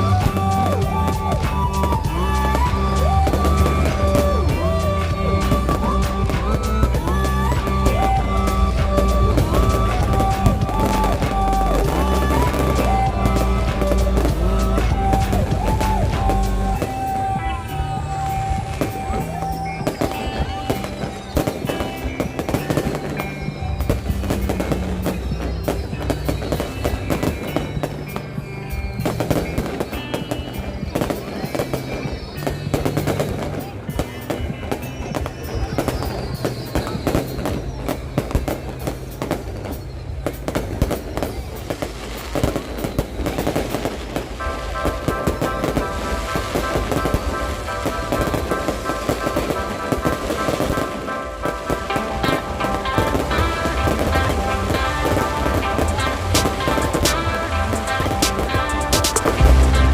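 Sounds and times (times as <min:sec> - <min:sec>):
fireworks bursting and crackling: 0:00.0 - 0:59.9
music playing: 0:00.0 - 0:59.9.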